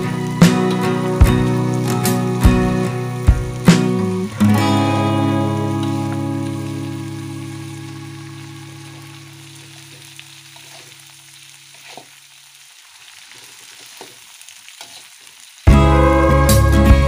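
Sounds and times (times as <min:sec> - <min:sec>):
frying sizzle in oil: 0:00.0 - 0:17.0.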